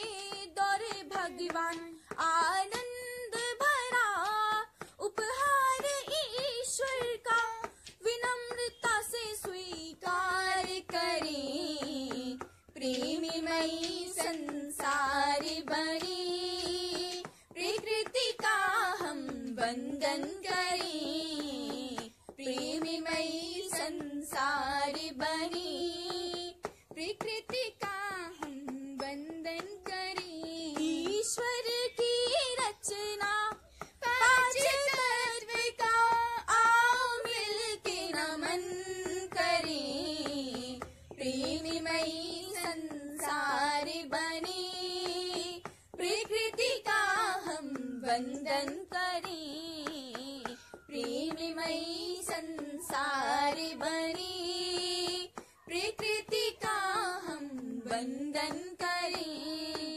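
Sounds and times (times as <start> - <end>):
girl singing slow melody: 0.0 - 59.9.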